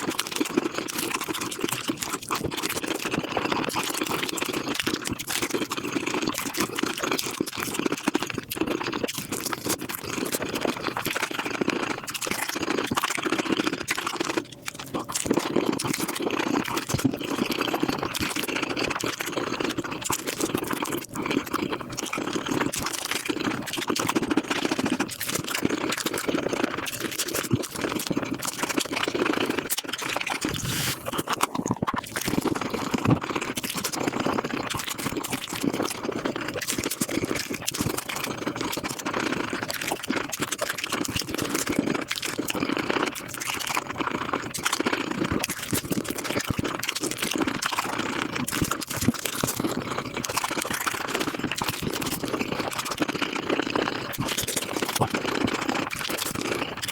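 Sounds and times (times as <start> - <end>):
sped up chewing and crunching: 0.0 - 56.9.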